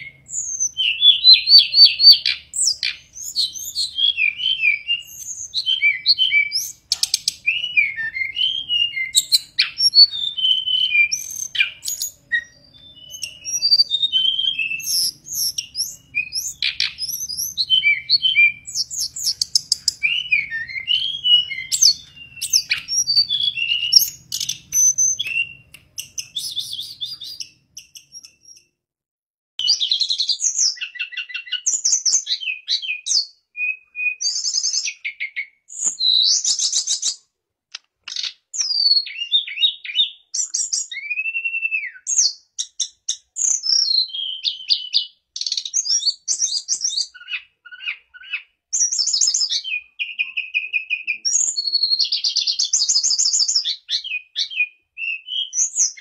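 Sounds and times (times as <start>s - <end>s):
bird singing whistled song: 0.0s - 28.7s, 29.6s - 37.3s, 38.1s - 56.0s.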